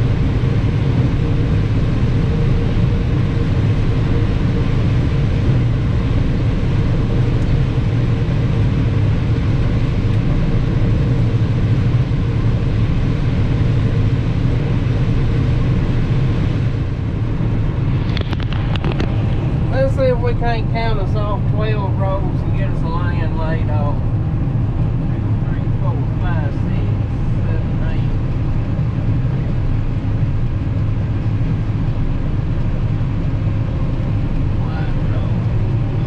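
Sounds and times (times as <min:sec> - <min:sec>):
combine harvester droning: 0:00.0 - 0:36.0.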